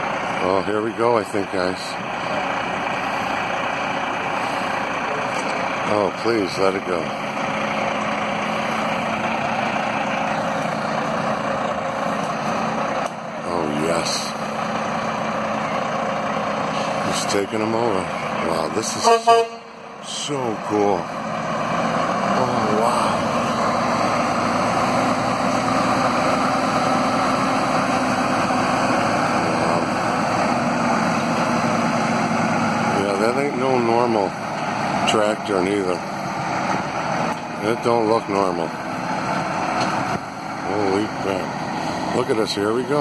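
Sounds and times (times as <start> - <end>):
diesel truck engine running: 0.0 - 43.0.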